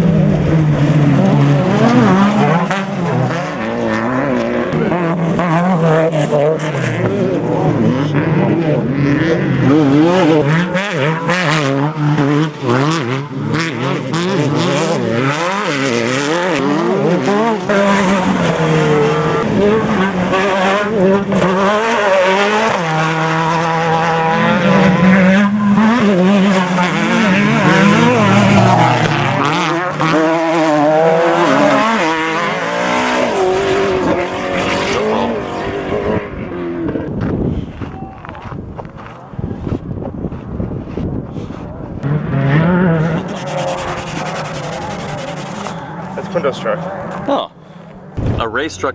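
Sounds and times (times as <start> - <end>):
truck engines revving hard: 0.0 - 48.9.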